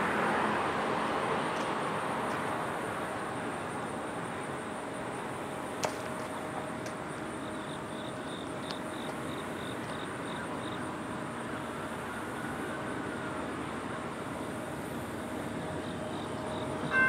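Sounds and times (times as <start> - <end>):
constant high whine: 0.0 - 17.0.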